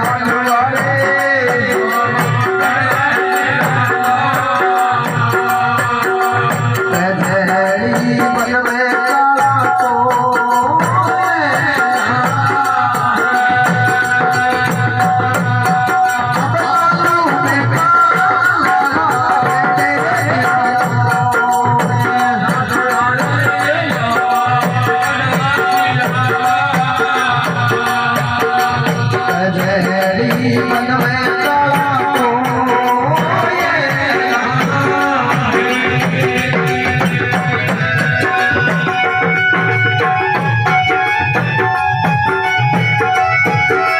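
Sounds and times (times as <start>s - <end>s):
devotional folk music: 0.0s - 43.9s
hand drums: 0.0s - 43.9s
jingling rattle percussion: 0.0s - 43.9s.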